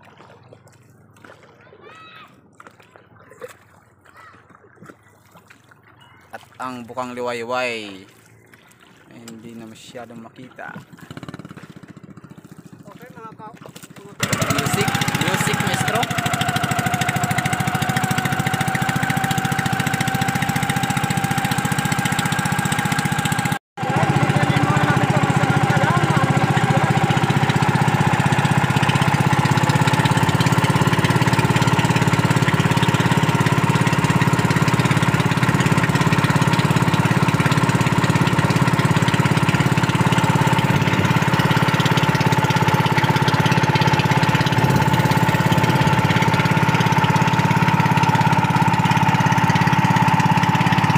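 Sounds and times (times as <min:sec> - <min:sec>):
small boat engine running: 0:00.0 - 0:50.9.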